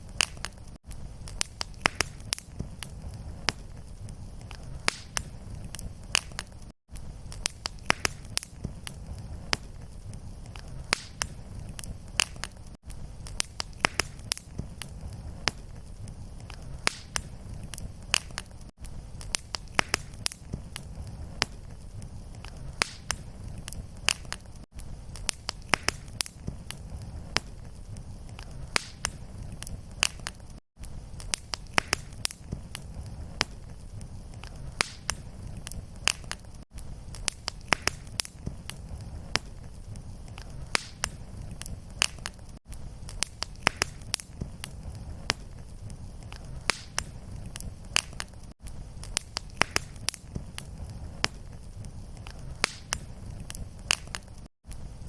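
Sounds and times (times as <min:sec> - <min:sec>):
fireplace fire crackling and popping: 0:00.0 - 0:55.0
low rumble of flame: 0:00.0 - 0:55.0.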